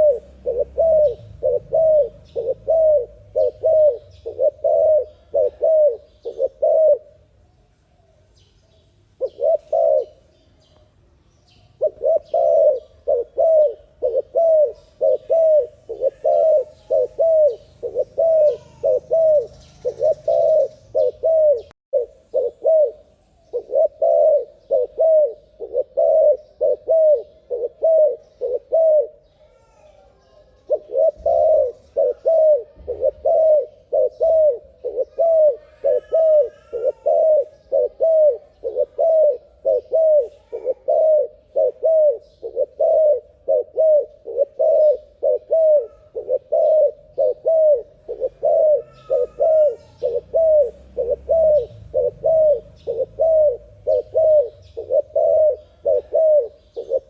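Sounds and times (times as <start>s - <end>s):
dove cooing: 0.0s - 7.3s, 9.2s - 10.4s, 11.8s - 57.0s.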